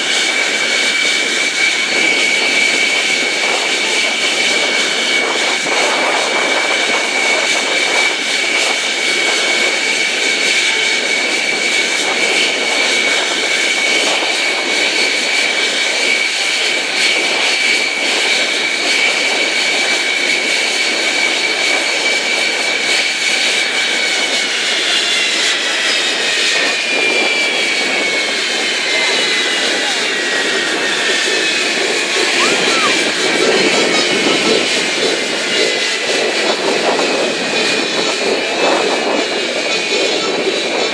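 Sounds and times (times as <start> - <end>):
jet engine whine: 0.0 - 40.9.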